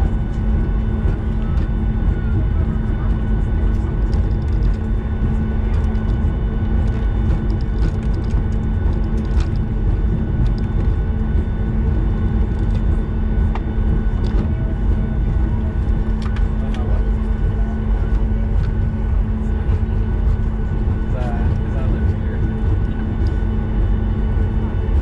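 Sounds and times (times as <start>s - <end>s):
jet engines whining at idle: 0.0s - 25.0s
low cabin rumble: 0.0s - 25.0s
faint cabin clicks and rattles: 0.3s - 25.0s.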